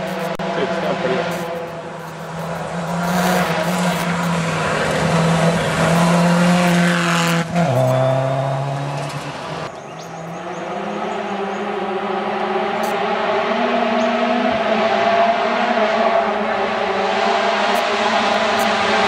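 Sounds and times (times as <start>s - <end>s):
rally car passing at speed: 0.0s - 19.0s.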